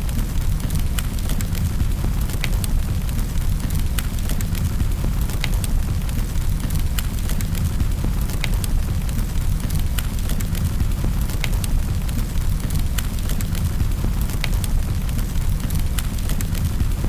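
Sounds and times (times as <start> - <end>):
fire crackles and pops: 0.0 - 17.0
fire rumbling in fireplace: 0.0 - 17.0.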